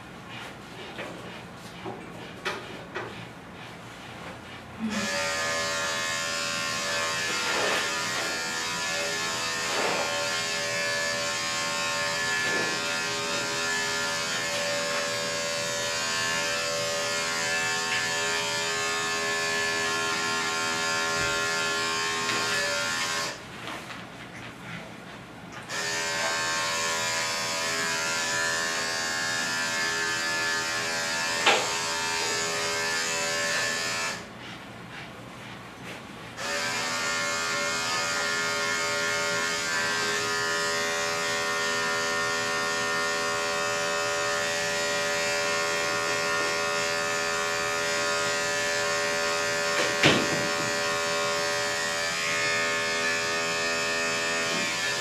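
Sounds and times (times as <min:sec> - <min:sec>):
electric clippers humming: 0:04.8 - 0:23.4, 0:25.6 - 0:34.3, 0:36.4 - 0:55.0.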